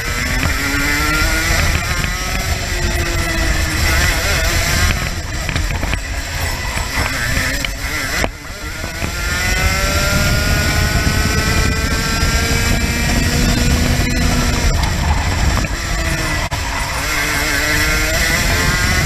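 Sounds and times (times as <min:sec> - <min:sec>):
kart engine accelerating: 0:00.0 - 0:19.0
wind buffeting microphone: 0:00.0 - 0:19.0.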